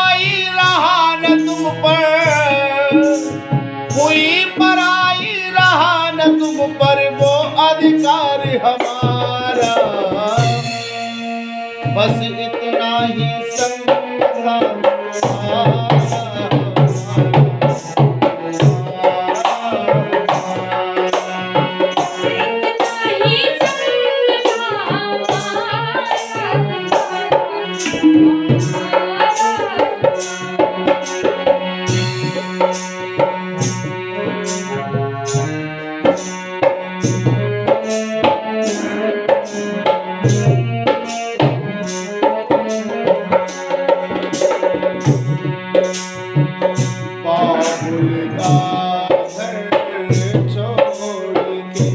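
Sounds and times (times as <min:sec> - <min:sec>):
steady drum rhythm: 0:00.0 - 0:51.9.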